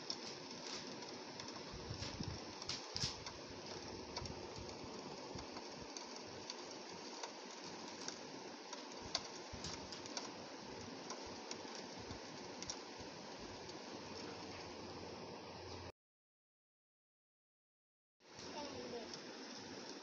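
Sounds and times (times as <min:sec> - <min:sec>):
rain drops ticking on window glass: 0:00.0 - 0:15.0, 0:18.3 - 0:20.0.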